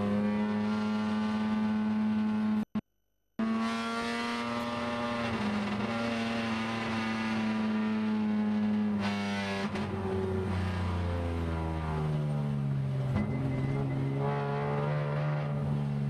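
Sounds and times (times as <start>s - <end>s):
race car engine at high revs: 0.0s - 2.7s, 3.4s - 16.0s.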